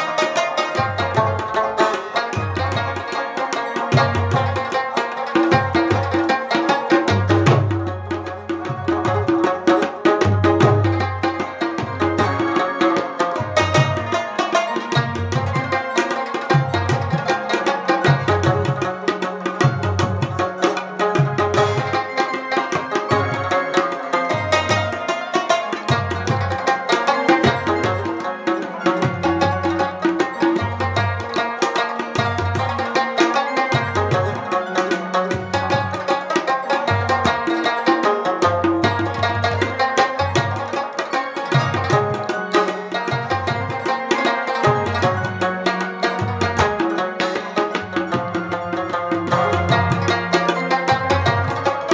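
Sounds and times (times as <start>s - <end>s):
rabab melody: 0.0s - 51.9s
rhythmic drum beat: 0.0s - 51.9s.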